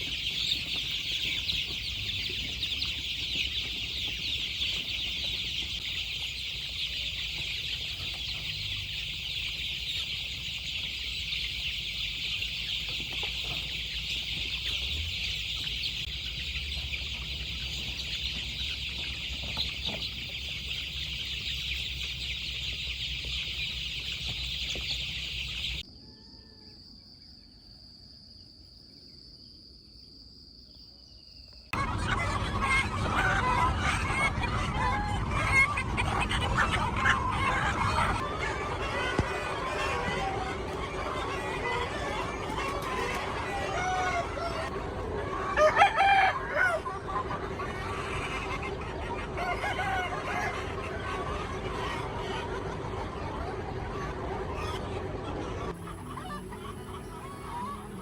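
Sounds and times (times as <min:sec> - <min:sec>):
chicks peeping: 0:00.0 - 0:25.9, 0:31.7 - 0:58.0
faint chicken clucks: 0:00.0 - 0:28.0, 0:31.7 - 0:58.0.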